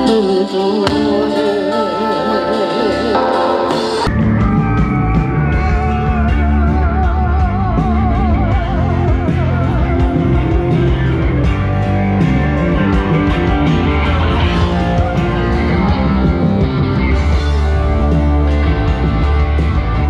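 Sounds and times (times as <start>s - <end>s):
bass line: 0.0s - 20.0s
drums: 0.0s - 20.0s
electric guitar playing: 0.0s - 20.0s.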